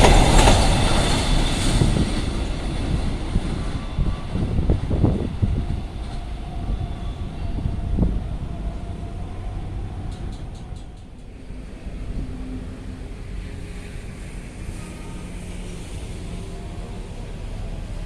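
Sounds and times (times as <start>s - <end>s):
train passing on rails: 0.0s - 18.0s.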